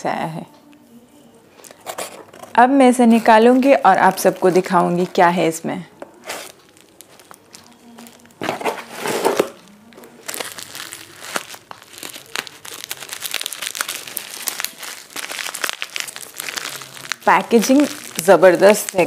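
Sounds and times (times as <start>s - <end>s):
bubble wrap crinkling: 1.5s - 19.0s.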